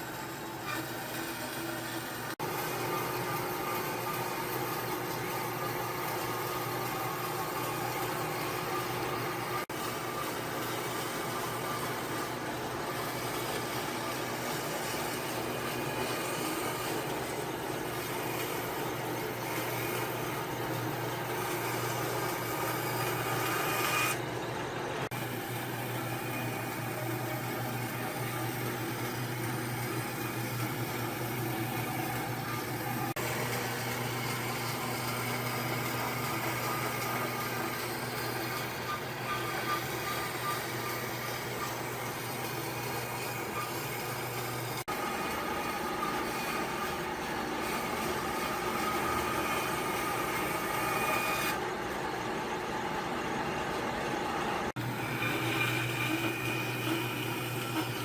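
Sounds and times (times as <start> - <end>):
motor running with low hum: 0.0 - 58.0.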